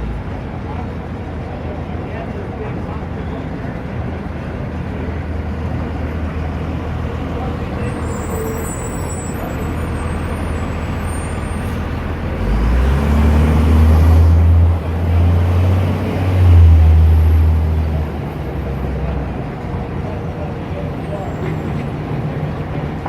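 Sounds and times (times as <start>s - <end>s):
diesel engine rumbling: 0.0s - 23.0s
traffic noise: 0.0s - 23.0s.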